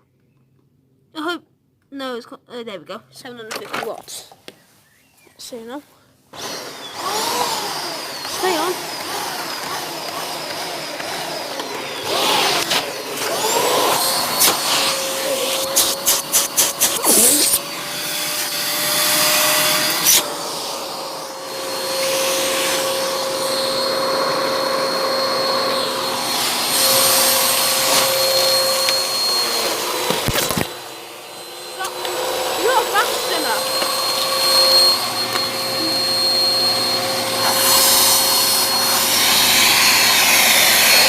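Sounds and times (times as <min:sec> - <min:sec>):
vacuum cleaner running: 0:06.3 - 0:41.0.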